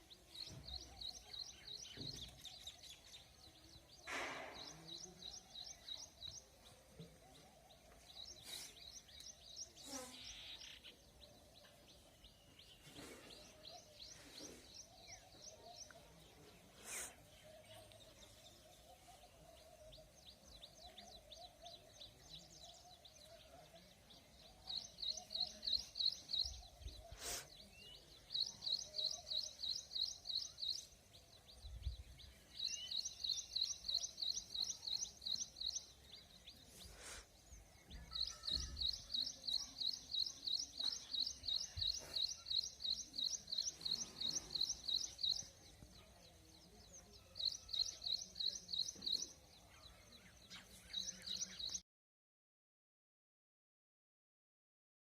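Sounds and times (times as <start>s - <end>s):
songbird chirping: 0.0s - 51.8s.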